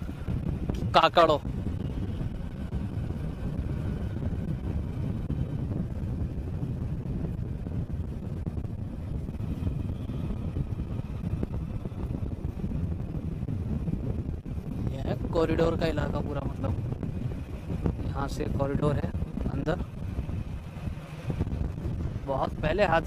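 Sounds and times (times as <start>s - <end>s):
vehicle engine and road rumble: 0.0s - 23.0s
wind buffeting microphone: 0.0s - 23.0s.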